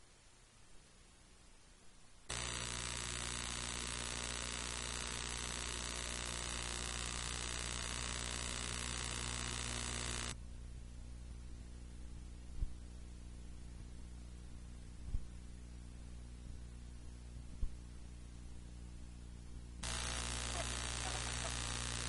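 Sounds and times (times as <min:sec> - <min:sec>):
faint hiss: 0:00.0 - 0:22.0
electrical hum and buzz: 0:02.2 - 0:22.0.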